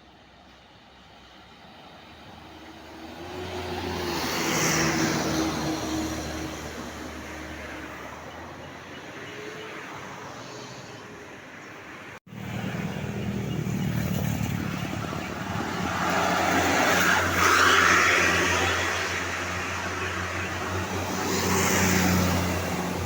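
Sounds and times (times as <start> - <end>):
bus engines passing: 0.0 - 23.0.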